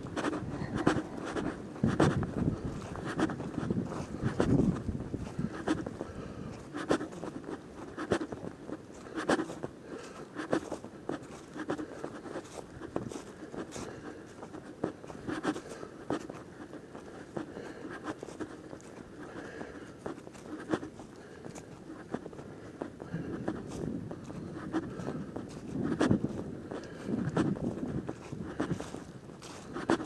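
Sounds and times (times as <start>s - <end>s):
footsteps on a trail: 0.0s - 30.0s.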